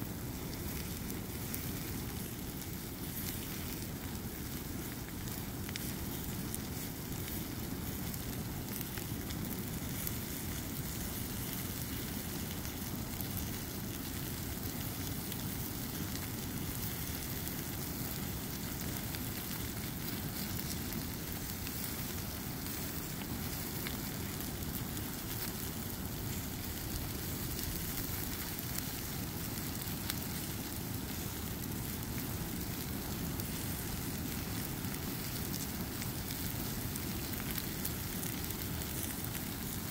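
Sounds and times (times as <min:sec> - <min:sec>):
fire crackles and pops: 0:00.0 - 0:39.9
fire flames rushing: 0:00.0 - 0:39.9.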